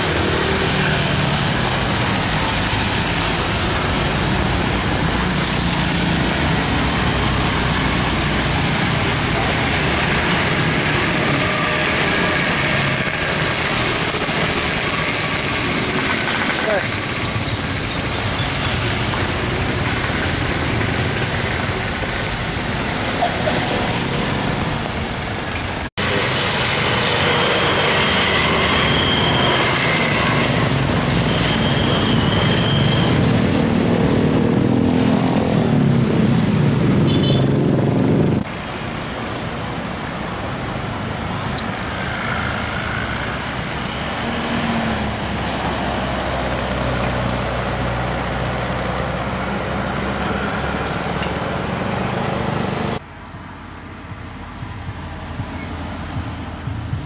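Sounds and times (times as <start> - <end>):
car and motorcycle engines: 0.0 - 57.0
heavy low engine noise: 0.0 - 57.0
tyres on wet road: 0.0 - 57.0.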